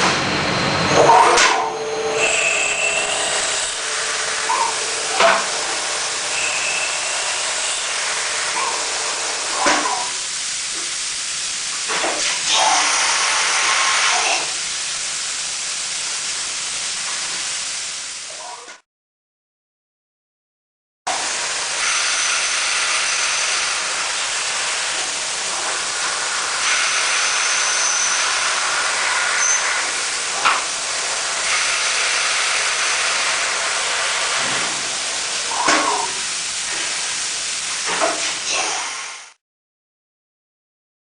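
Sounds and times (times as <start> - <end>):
milling machine cutting: 0.0 - 14.7, 21.1 - 39.3.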